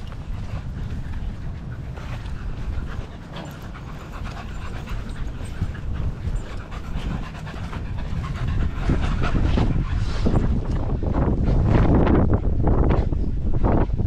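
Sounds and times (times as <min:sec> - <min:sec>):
dogs panting hard: 0:00.0 - 0:14.0
wind rumble on microphone: 0:00.0 - 0:14.0.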